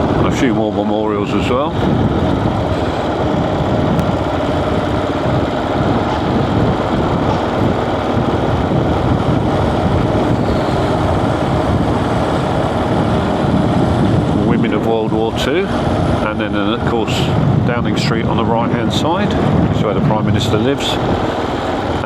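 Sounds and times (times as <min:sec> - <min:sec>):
motorcycle engine hum: 0:00.0 - 0:22.0
road noise: 0:00.0 - 0:22.0
wind: 0:00.0 - 0:22.0.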